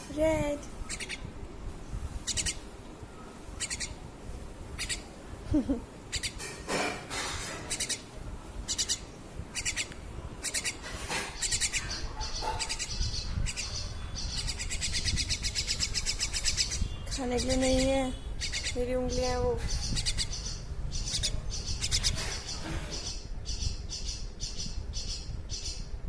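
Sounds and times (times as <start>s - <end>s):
small bird chirping: 0.2s - 6.5s, 7.6s - 26.0s.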